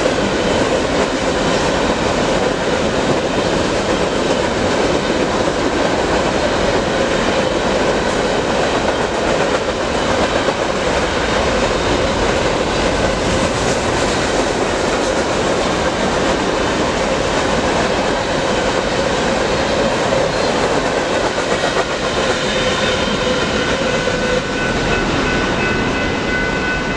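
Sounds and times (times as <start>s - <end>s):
freight train rumbling past: 0.0s - 26.9s.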